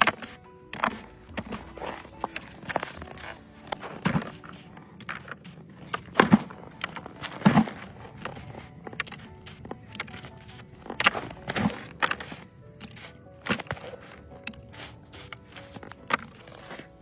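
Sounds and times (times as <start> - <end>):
footsteps on snow: 0.0 - 17.0.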